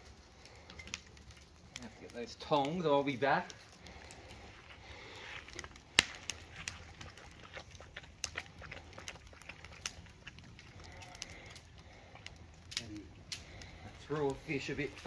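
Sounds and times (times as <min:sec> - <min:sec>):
low steady background noise: 0:00.0 - 0:15.0
wood fire crackling and popping: 0:00.0 - 0:15.0.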